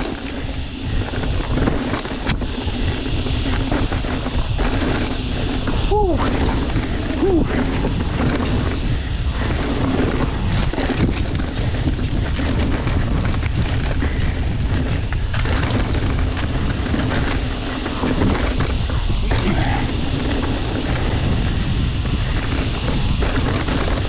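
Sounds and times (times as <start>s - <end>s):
bike rattles and knocks: 0.0s - 24.0s
tyres rumbling on dirt and rock: 0.0s - 24.0s
wind buffeting microphone: 0.0s - 24.0s.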